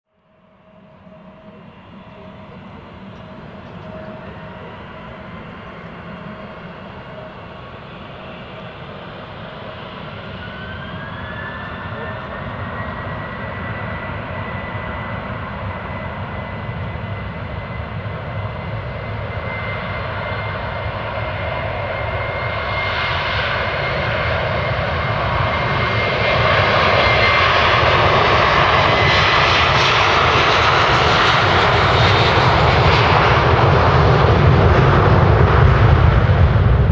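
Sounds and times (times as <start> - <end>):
high engine whine: 0.1 - 36.9
turboprop aircraft engines: 0.1 - 36.9.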